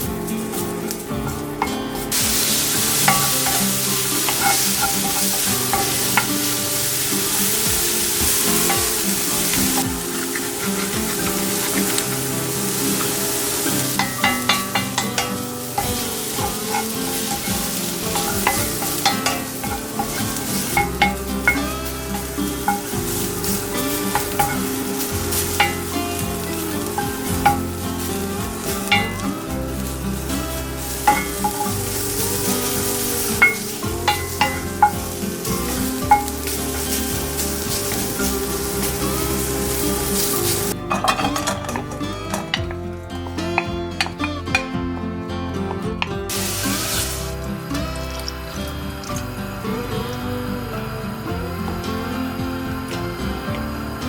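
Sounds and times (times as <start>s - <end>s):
background music sustained notes: 0.0s - 54.0s
food sizzling in a pan: 0.0s - 54.0s.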